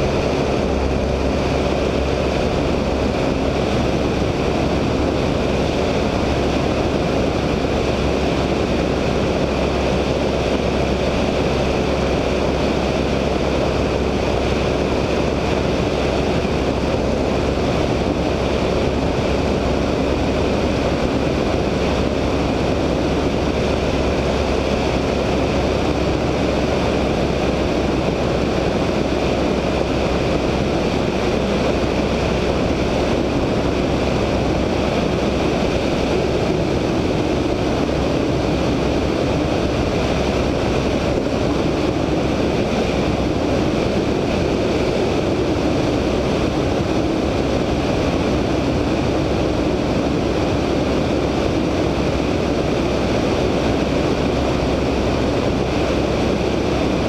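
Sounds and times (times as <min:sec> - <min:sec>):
heavy wind rush: 0:00.0 - 0:57.0
radial engine and propeller drone: 0:00.0 - 0:57.0.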